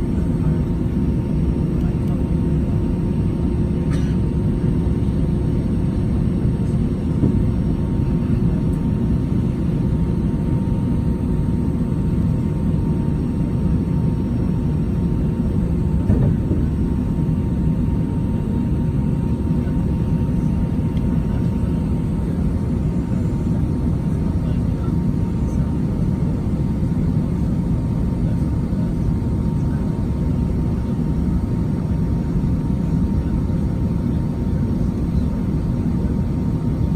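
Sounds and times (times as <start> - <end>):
jet engine cabin rumble: 0.0 - 36.9.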